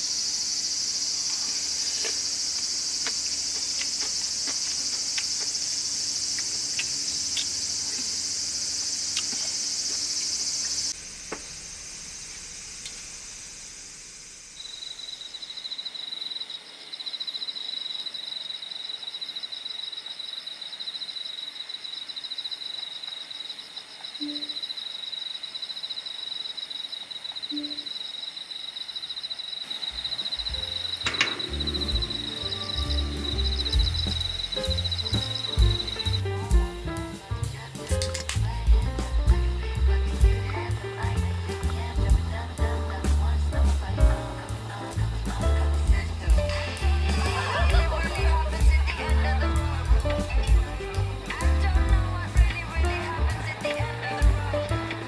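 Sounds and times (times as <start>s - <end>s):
crickets chirring: 0.0s - 55.0s
pulsing cricket trill: 0.0s - 55.0s.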